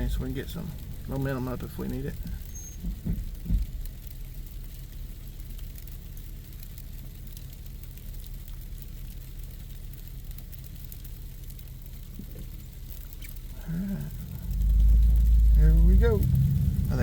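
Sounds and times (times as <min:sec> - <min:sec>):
faint ticks: 0:00.0 - 0:17.0
truck engine and road drone: 0:00.0 - 0:17.0.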